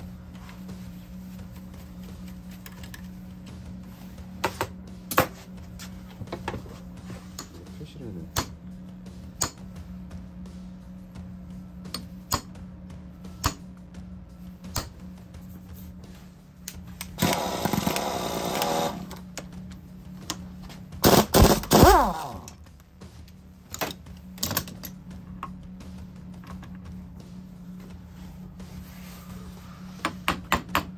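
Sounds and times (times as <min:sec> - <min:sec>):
electrical hum: 0:00.0 - 0:30.0
dense mechanical noise: 0:00.0 - 0:30.9.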